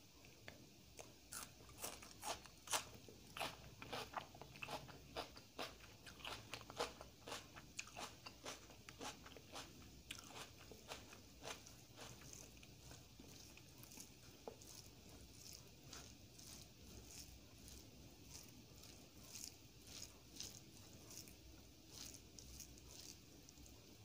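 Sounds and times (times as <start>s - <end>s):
chewing crunchy food: 0.2s - 24.0s.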